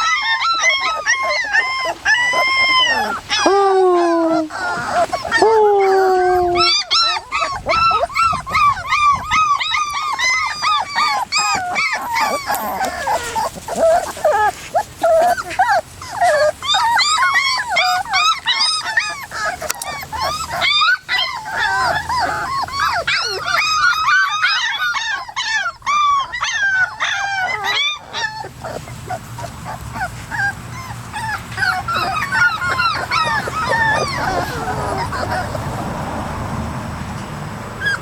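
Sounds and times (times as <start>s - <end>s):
puppies whining and yelping: 0.0s - 36.4s, 37.8s - 38.0s.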